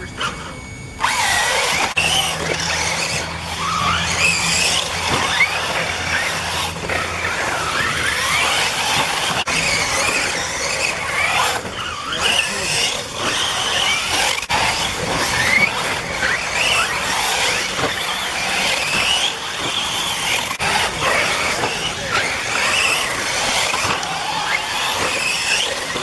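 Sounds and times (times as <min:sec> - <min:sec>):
rc buggy motors whining: 0:00.0 - 0:26.0.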